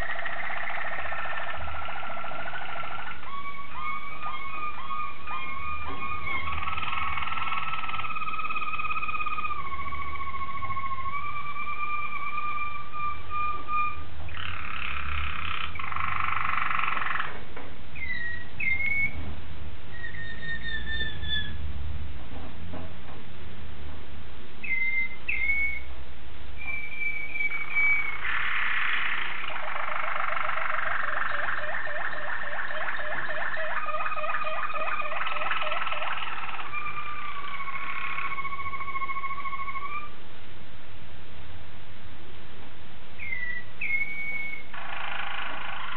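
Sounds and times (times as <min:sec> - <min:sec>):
canaries singing: 0:00.0 - 0:21.7, 0:24.6 - 0:26.0, 0:26.6 - 0:40.2, 0:43.2 - 0:45.9.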